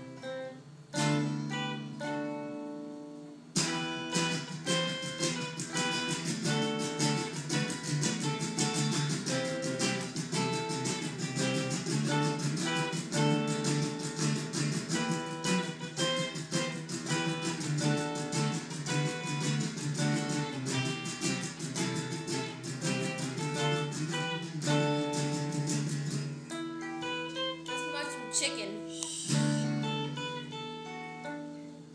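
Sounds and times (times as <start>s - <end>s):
acoustic guitar strumming chords: 0.0s - 31.9s.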